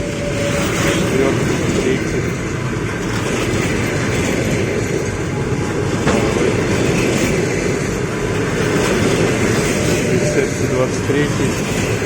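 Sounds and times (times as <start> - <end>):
train wheels rolling on rails: 0.0 - 12.0.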